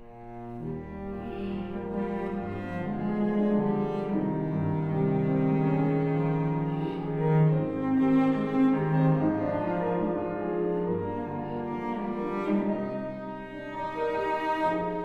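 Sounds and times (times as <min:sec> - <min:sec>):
cello bowed notes: 0:00.0 - 0:15.0
piano accompaniment: 0:00.0 - 0:15.0.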